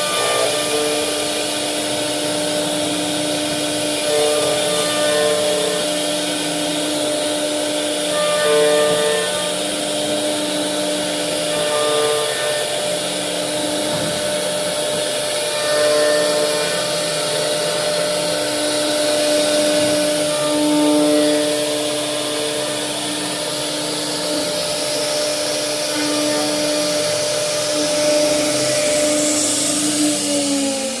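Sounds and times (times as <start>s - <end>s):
cnc router whining: 0.0s - 31.0s.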